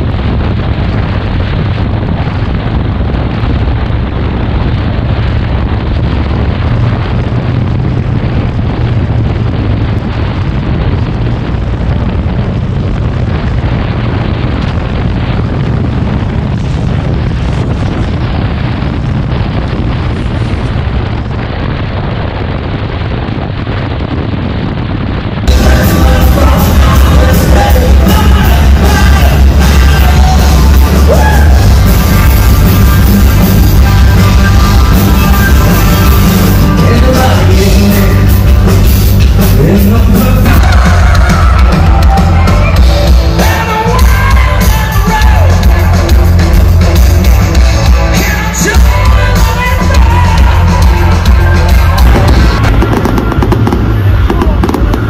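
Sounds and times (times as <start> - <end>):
motorcycle engine running: 0.0 - 22.3, 25.4 - 55.0
wind buffeting microphone: 0.0 - 55.0.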